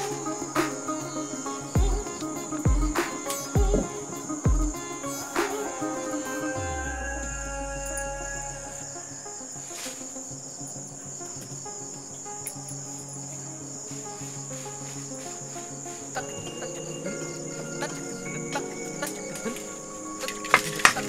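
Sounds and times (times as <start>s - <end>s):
crickets chirping: 0.0s - 21.0s
faint background music: 0.0s - 21.0s.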